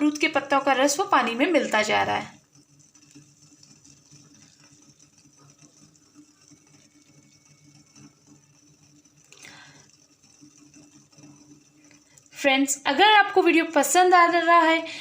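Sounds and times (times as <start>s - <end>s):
steady low hum: 0.0s - 15.0s
water simmering in a pot: 0.0s - 15.0s.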